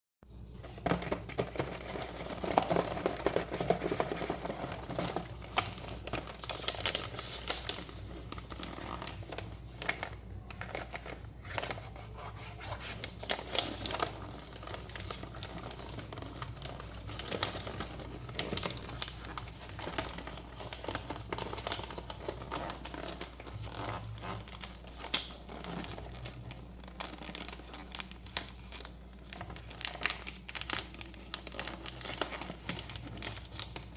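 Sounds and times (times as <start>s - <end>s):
packaging crinkling and rustling: 0.5s - 33.9s
packaging tearing: 0.7s - 33.9s.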